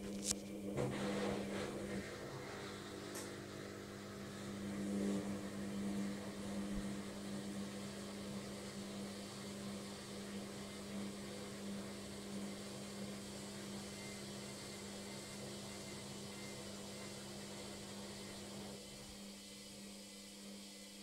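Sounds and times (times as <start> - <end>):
washing machine spin hum: 0.0 - 21.0.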